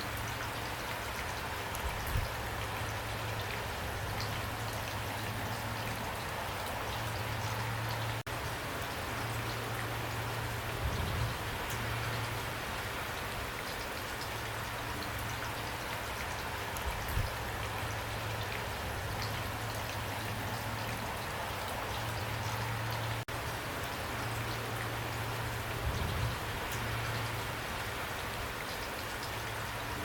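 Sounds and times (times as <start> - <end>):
raindrops ticking: 0.0 - 30.0
steady rain falling: 0.0 - 30.0.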